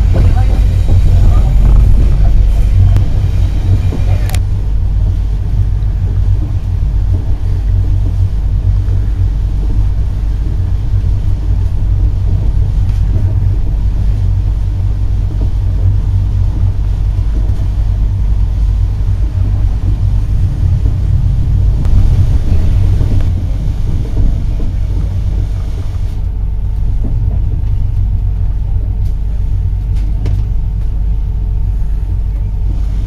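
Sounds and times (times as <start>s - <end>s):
train rumbling inside carriage: 0.0s - 33.0s.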